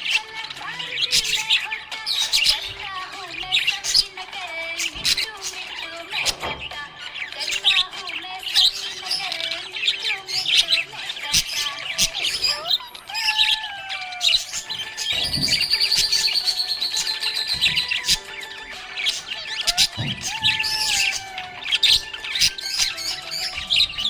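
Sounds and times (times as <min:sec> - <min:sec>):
bird fast trill: 0:00.0 - 0:24.0
parrots chirping and warbling: 0:00.0 - 0:24.0.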